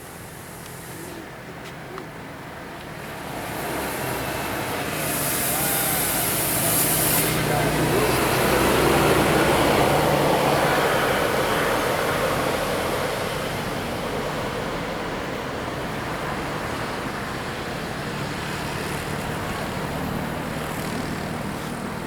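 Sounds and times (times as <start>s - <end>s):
vehicle passing by: 3.1s - 22.0s.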